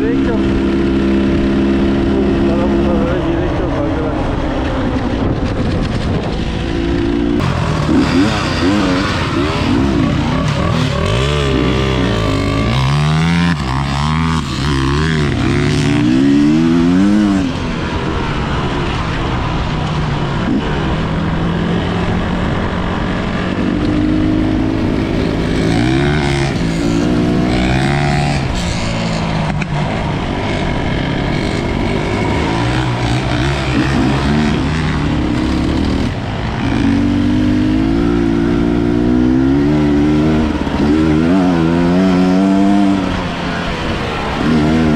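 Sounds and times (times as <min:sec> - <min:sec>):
dirt bike engine revving: 0:05.1 - 0:44.9.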